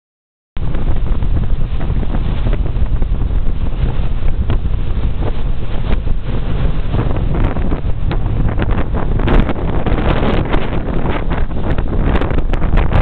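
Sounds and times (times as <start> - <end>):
churning boat wake: 0.6 - 13.0
wind buffeting microphone: 0.6 - 13.0.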